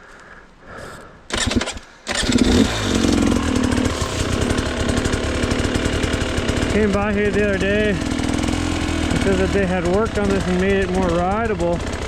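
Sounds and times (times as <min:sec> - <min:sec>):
dirt bike engine starting and idling: 0:01.3 - 0:12.0.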